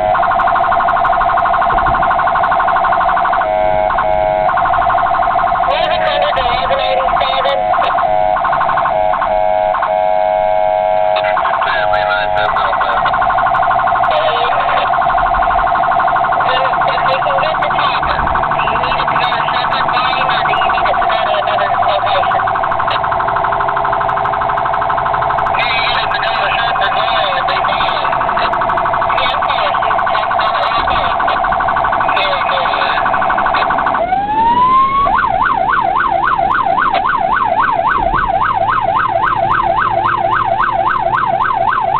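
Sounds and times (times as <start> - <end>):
emergency vehicle siren: 0.0 - 41.9.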